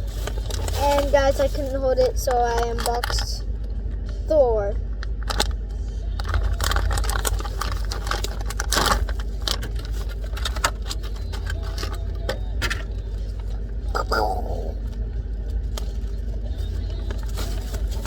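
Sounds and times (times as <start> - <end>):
packaging crinkling and rustling: 0.0 - 4.2, 5.0 - 13.9, 14.7 - 18.0
steady low hum: 0.0 - 18.0.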